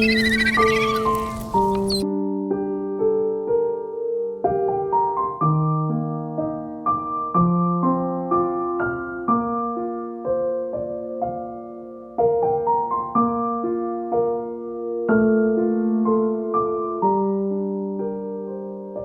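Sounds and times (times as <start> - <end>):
slow solo piano: 1.3 - 19.0.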